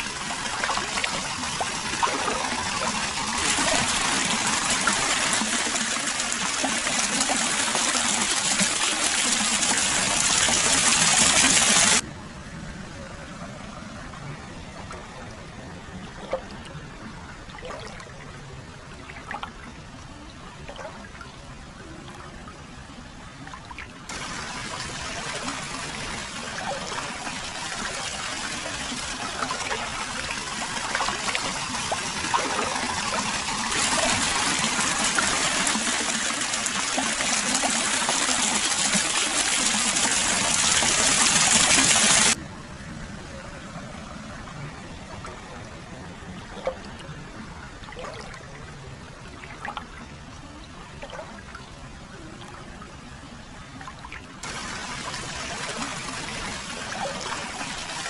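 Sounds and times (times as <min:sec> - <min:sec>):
water flowing and trickling: 0:00.0 - 0:12.1, 0:12.7 - 0:42.4, 0:43.1 - 0:58.0.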